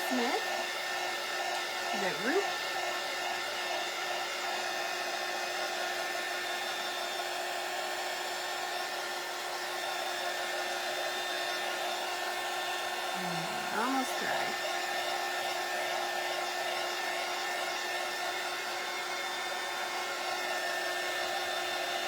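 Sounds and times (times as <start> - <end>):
hot-air blower whirring hum: 0.0 - 22.0.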